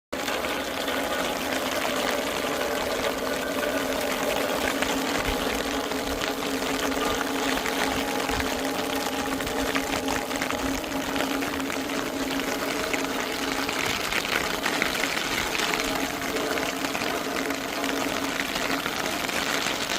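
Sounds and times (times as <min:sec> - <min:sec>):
heavy rain pouring: 0:00.1 - 0:19.9
low hum: 0:00.2 - 0:19.9.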